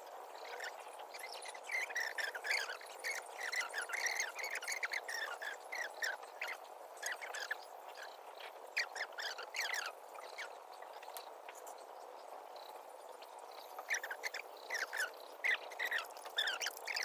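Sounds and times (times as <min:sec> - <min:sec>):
faint steady hum: 0:00.0 - 0:17.0
many birds chirping: 0:00.0 - 0:17.0.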